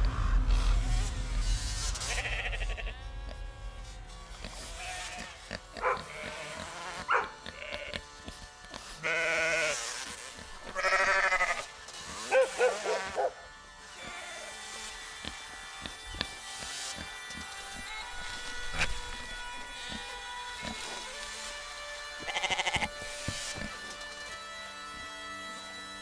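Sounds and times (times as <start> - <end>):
sheep bleating: 2.0 - 16.4, 17.4 - 24.0.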